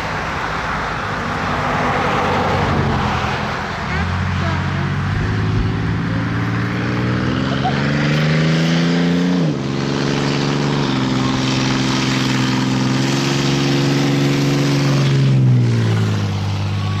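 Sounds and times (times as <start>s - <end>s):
engine accelerating through gears: 0.0s - 17.0s.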